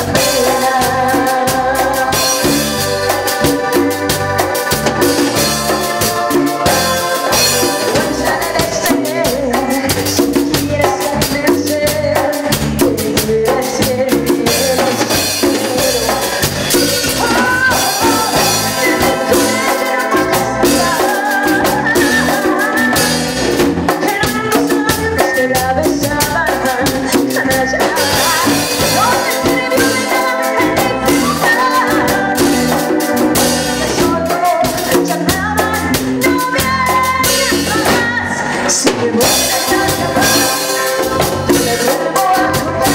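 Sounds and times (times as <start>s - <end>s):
band melody line: 0.0s - 42.9s
drum kit beat: 0.0s - 42.9s.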